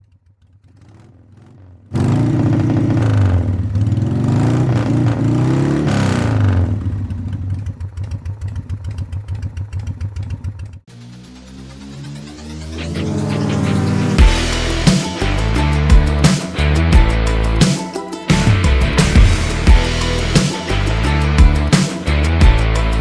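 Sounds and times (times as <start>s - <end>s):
motorcycle engine revving and idling: 0.0s - 17.7s, 18.3s - 23.0s.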